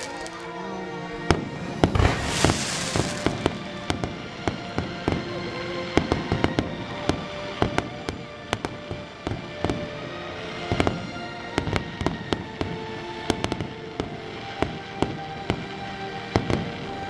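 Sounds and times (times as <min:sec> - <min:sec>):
fireworks bangs and crackles: 0:00.0 - 0:00.5, 0:01.2 - 0:17.0
music playing: 0:00.0 - 0:17.0.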